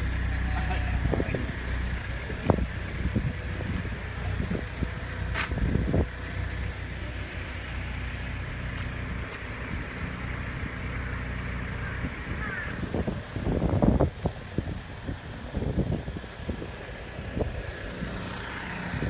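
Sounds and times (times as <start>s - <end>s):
engine and road hum: 0.0s - 19.0s.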